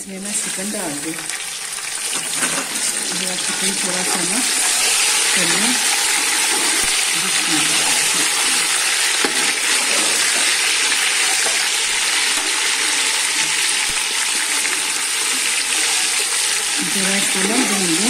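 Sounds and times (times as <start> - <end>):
chicken sizzling in a pot: 0.0 - 18.0.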